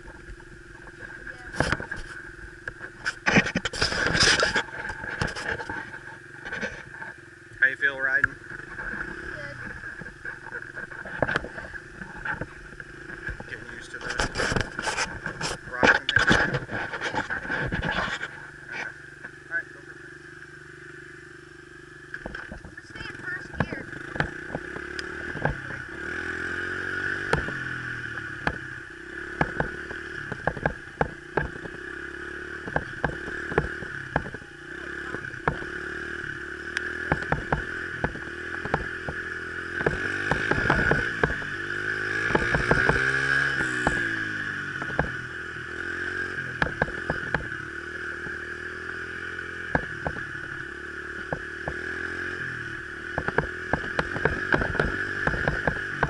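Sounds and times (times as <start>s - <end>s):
sharp clicks and rattles: 0.0s - 19.9s, 22.0s - 26.3s, 27.2s - 45.7s, 46.3s - 56.0s
motorcycle engine revving: 0.0s - 56.0s.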